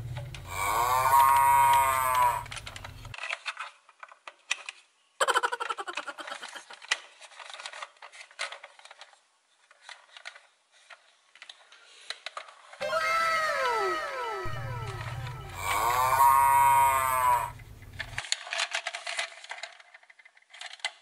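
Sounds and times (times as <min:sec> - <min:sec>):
plastic toy pieces clicking: 0:00.2 - 0:12.8, 0:14.8 - 0:21.0.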